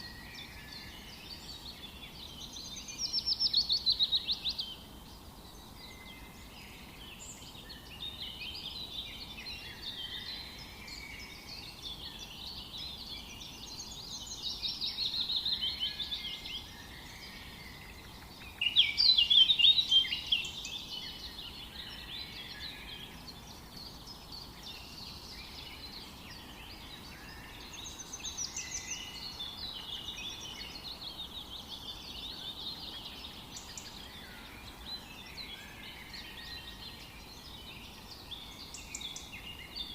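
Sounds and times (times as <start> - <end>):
birds singing and chirping: 0.0 - 39.9
soft background hiss: 0.0 - 39.9.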